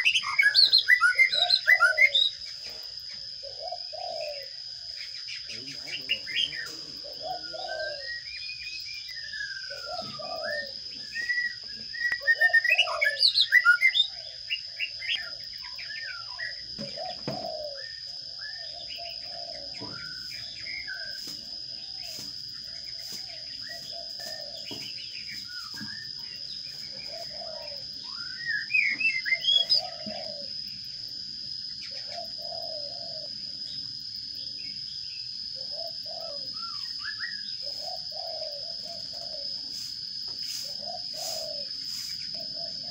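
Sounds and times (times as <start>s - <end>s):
dove cooing: 0.0s - 31.2s, 31.8s - 33.8s, 35.4s - 42.9s
sparrows chirping: 0.0s - 42.9s.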